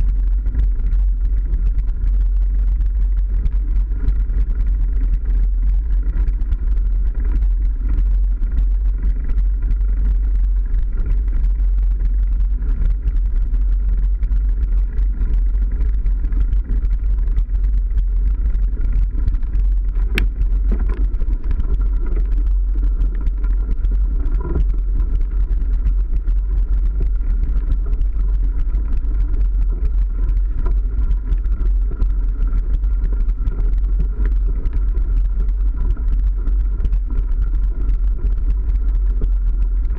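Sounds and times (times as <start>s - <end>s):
bike tyre vibration: 0.0s - 39.9s
wind buffeting microphone: 0.0s - 39.9s.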